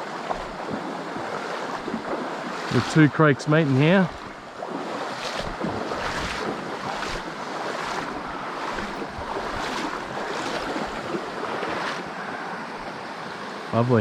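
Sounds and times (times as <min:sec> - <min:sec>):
creek water splashing over rocks: 0:00.0 - 0:13.9.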